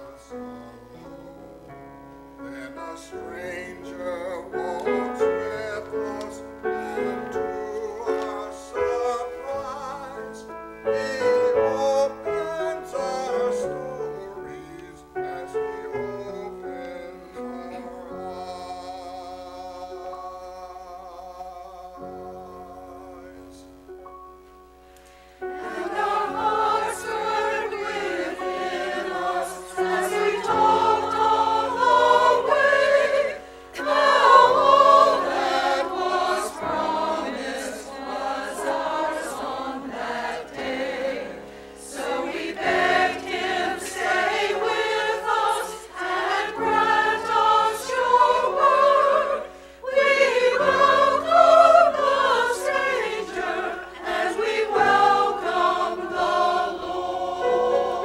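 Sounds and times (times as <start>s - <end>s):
choir singing: 0.0s - 1.7s, 2.4s - 23.8s, 25.4s - 58.0s.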